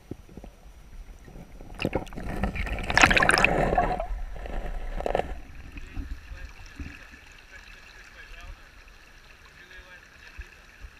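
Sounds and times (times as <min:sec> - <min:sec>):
river water splashing and gurgling: 0:01.0 - 0:10.9.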